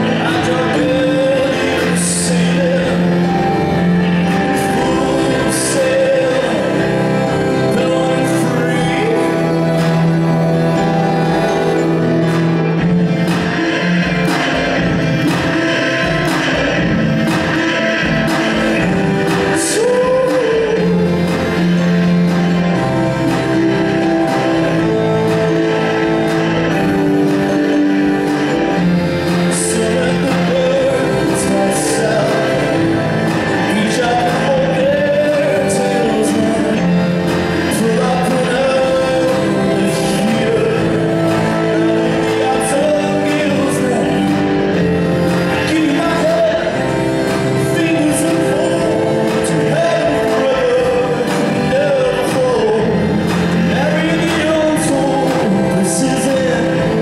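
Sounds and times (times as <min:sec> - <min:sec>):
keyboard and violin: 0:00.0 - 0:57.0
man singing: 0:00.0 - 0:57.0.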